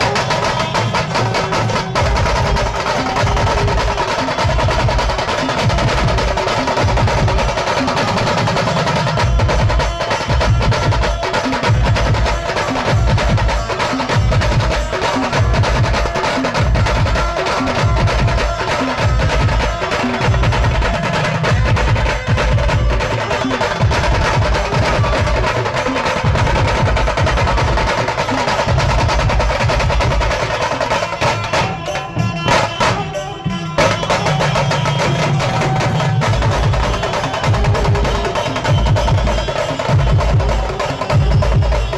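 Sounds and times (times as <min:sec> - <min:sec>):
driving drums and percussion: 0:00.0 - 0:41.9.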